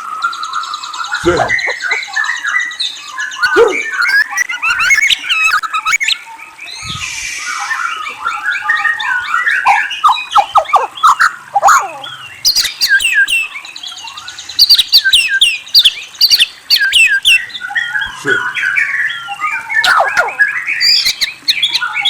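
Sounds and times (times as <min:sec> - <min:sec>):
songbird whistles and trills: 0:00.0 - 0:22.0.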